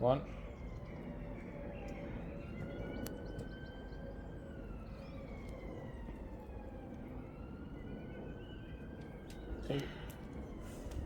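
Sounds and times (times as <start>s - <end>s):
siren wailing: 1.5s - 11.0s.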